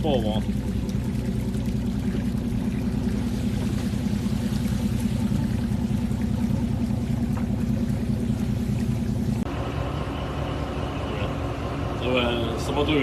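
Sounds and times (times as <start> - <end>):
boat engine drone: 0.0 - 13.0
water rushing: 0.0 - 13.0.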